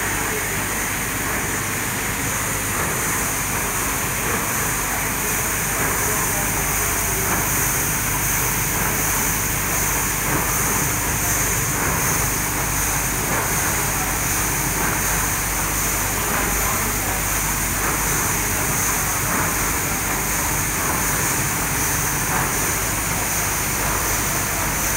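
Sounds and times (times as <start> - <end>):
rice mill machinery running: 0.0 - 24.9.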